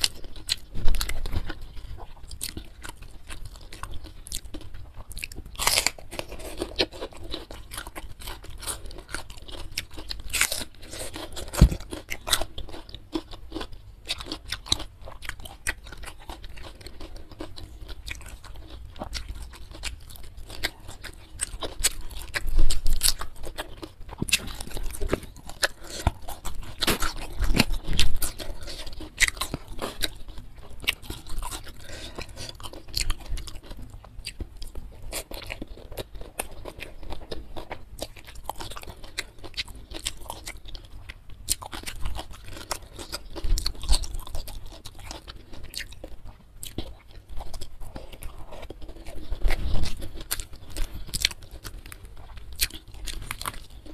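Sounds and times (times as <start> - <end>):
crunching and chewing food: 0.0 - 53.9.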